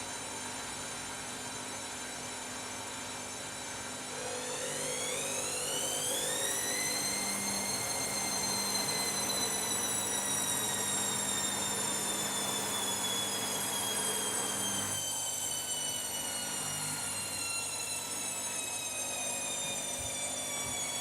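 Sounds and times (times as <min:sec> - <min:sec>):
washing machine motor whine: 0:00.8 - 0:21.0.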